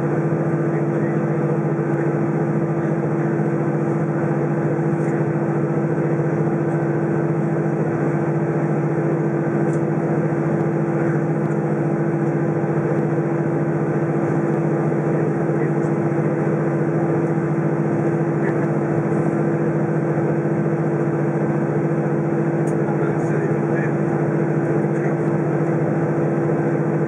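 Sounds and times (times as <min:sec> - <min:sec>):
aircraft engines idling drone: 0:00.0 - 0:27.0
cabin air system hum: 0:00.1 - 0:27.0.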